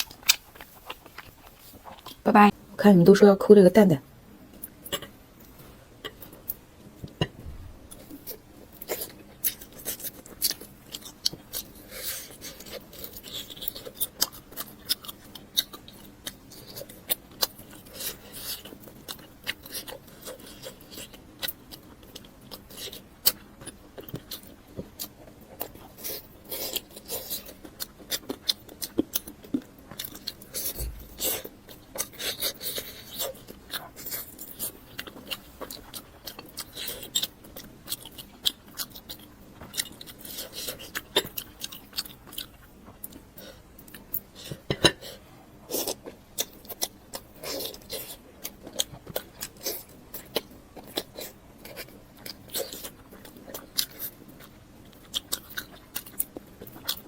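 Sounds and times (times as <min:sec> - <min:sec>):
chewing and crunching: 0:00.0 - 0:02.6, 0:07.9 - 0:57.0.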